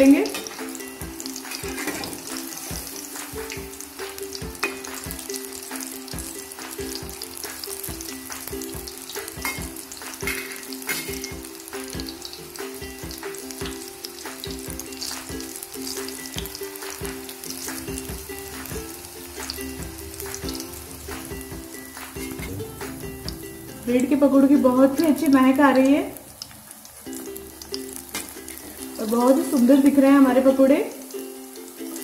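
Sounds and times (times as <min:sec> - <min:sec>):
food deep-frying in hot oil: 0:00.0 - 0:32.0.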